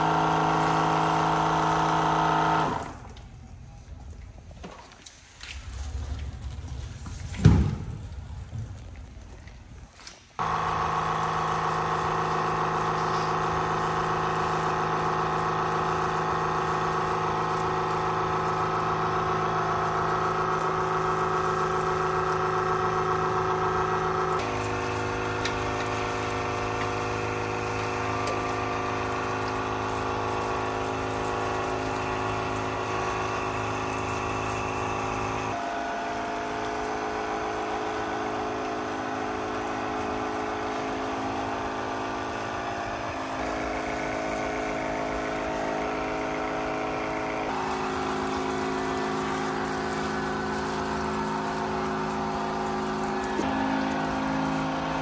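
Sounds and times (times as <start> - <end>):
pressure washer spraying water: 0.0 - 3.1, 10.4 - 55.0
machine drone: 5.4 - 9.0, 10.4 - 55.0.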